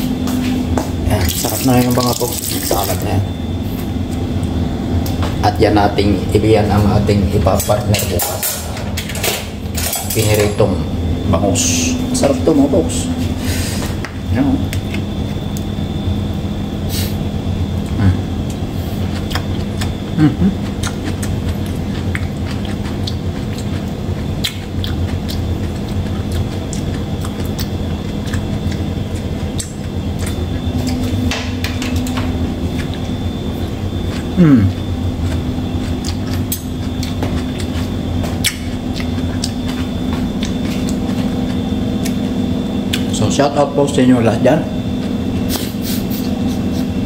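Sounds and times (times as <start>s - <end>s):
machine hum: 0.0s - 47.0s.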